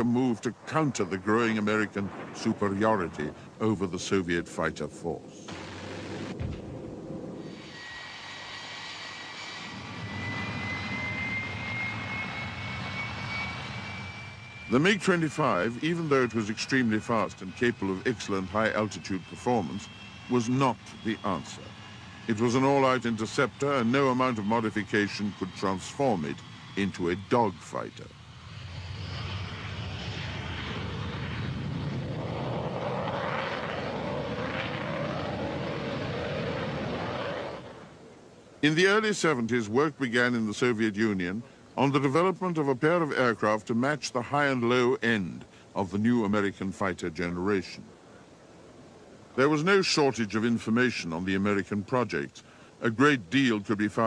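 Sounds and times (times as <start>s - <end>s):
jet engine whine and rumble: 0.0s - 54.0s.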